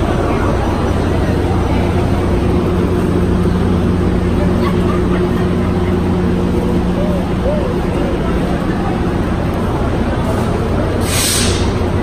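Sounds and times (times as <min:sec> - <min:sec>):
low machine drone: 0:00.0 - 0:12.0.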